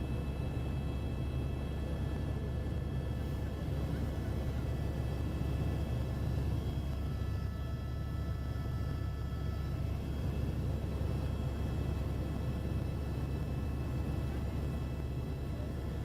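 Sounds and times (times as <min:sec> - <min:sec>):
faint thin whining tones: 0:00.0 - 0:16.0
helicopter rotor and engine drone: 0:00.0 - 0:16.0.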